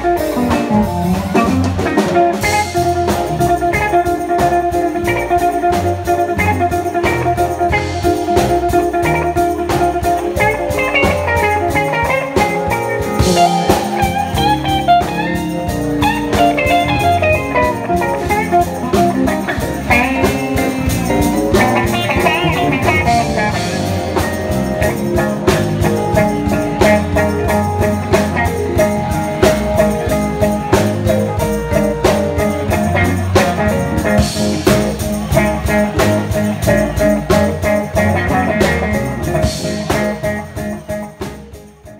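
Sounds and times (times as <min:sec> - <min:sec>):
drum kit beat: 0:00.0 - 0:41.9
electric bass: 0:00.0 - 0:41.9
electric guitar solo: 0:00.0 - 0:41.9.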